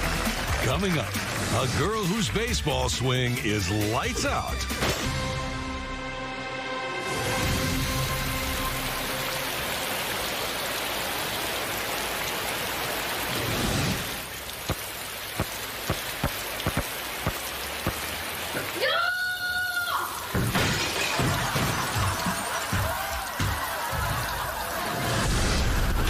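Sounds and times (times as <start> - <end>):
rain pouring: 0.0 - 4.7, 7.0 - 26.0.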